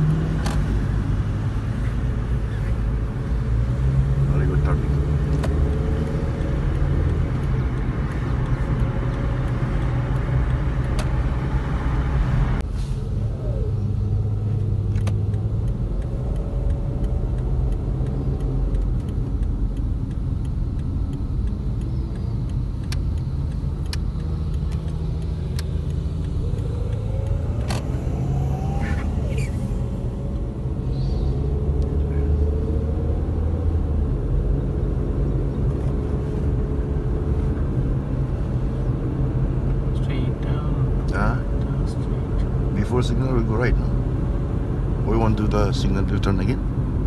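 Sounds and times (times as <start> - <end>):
low engine hum: 0.0 - 47.0
road and tyre noise: 0.0 - 47.0.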